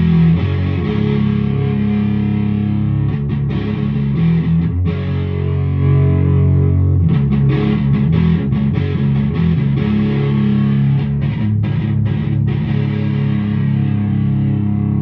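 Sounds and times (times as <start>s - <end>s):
fuzzed electric guitar chords: 0.0s - 15.0s.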